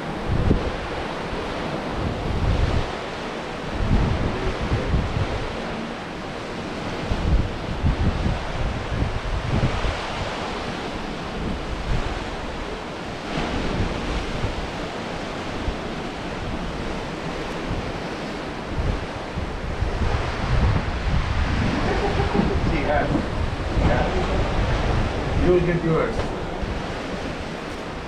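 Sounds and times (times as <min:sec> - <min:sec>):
heavy rain: 0:00.0 - 0:28.0
wind: 0:00.0 - 0:28.0
wind buffeting microphone: 0:00.0 - 0:28.0.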